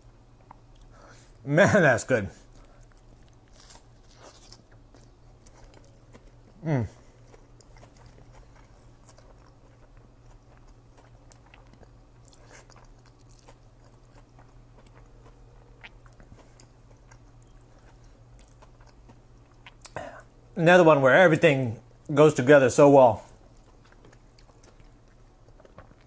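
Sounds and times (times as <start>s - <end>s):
low steady hum: 0.0s - 26.0s
man chewing crunchy food: 0.1s - 1.4s, 2.4s - 20.6s, 23.2s - 26.0s.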